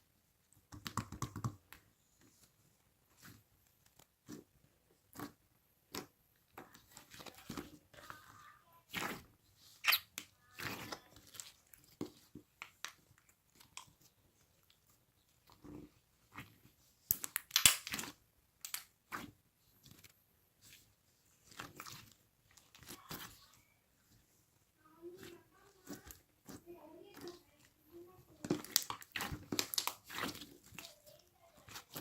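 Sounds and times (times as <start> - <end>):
slime crackling and squishing: 0.8 - 32.0.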